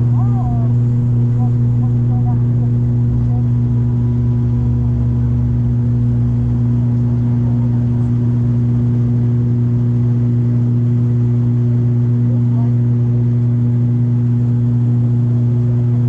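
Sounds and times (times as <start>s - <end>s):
turboprop engine drone in cabin: 0.0s - 16.0s.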